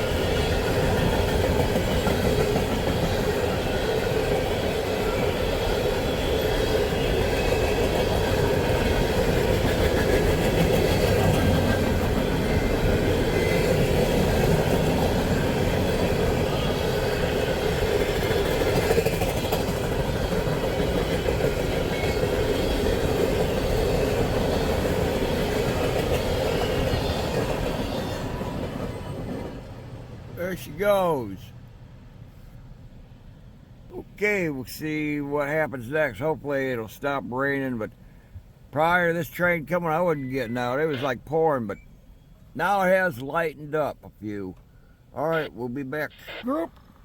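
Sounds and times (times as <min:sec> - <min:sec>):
train wheels rumbling on rail: 0:00.0 - 0:40.5.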